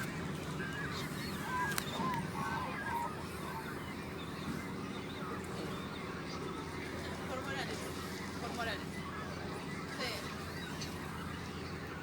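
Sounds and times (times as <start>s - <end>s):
boat engine humming: 0.0s - 12.0s
wavering bird calls: 0.0s - 12.0s.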